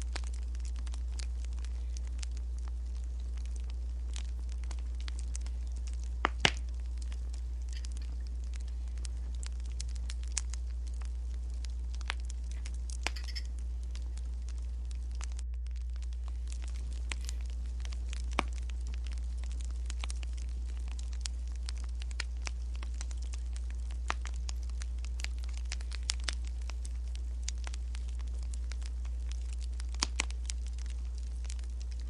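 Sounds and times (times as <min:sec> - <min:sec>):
steady low hum: 0:00.0 - 0:32.0
wood fire crackling: 0:00.0 - 0:32.0.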